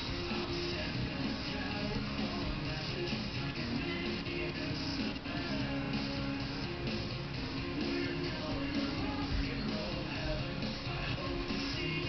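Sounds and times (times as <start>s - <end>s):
song with guitar from television: 0.0s - 12.0s.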